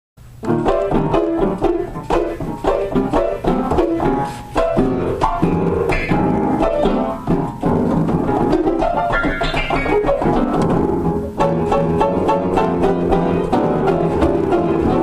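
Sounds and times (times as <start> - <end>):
loud piano chords: 0.2 - 15.0.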